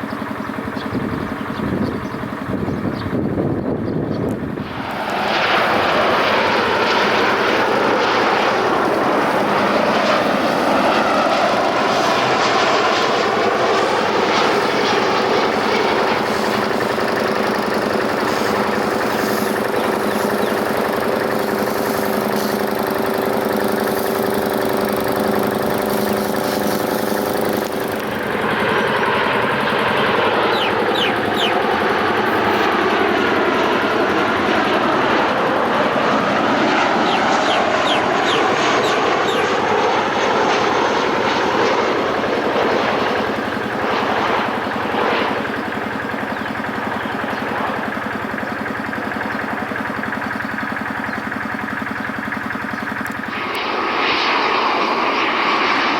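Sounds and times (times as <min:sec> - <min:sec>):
jet airliner engines passing: 0:00.0 - 0:55.9.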